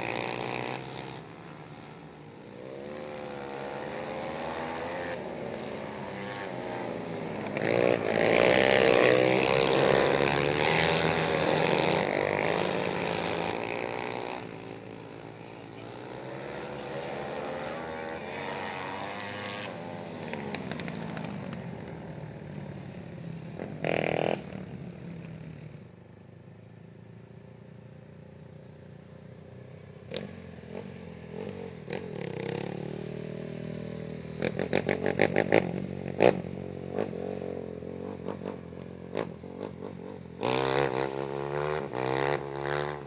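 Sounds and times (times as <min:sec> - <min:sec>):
atv engines revving: 0:00.0 - 0:43.0.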